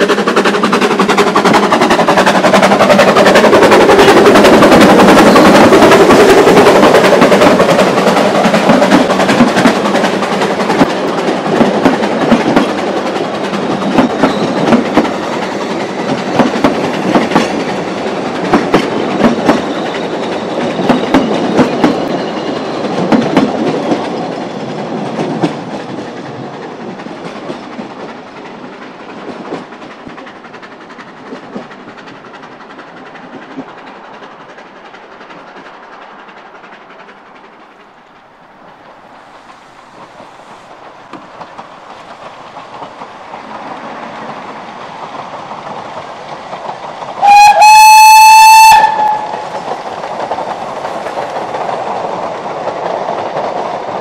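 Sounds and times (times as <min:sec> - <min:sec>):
wheels clicking over rail joints: 0:00.0 - 0:38.0, 0:40.0 - 0:47.7, 0:48.8 - 0:54.0
steam locomotive passing: 0:00.0 - 0:54.0.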